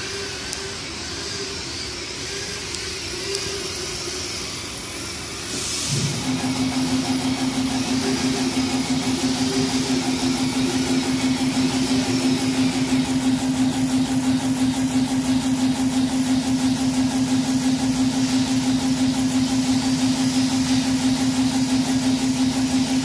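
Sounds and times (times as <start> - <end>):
pulsing hum of laser head: 0.0 - 23.0
steady machine noise: 0.0 - 23.0.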